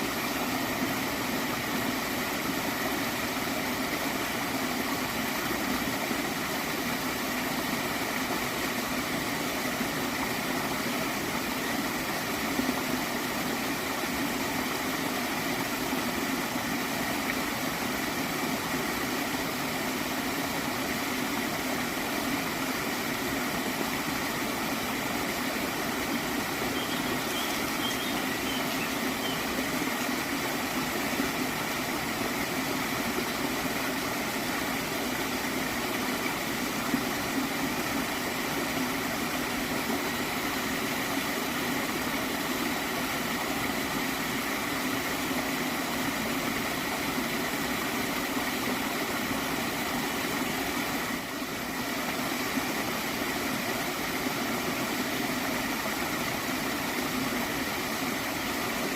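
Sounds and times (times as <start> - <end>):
small stream gurgling: 0.0 - 58.9.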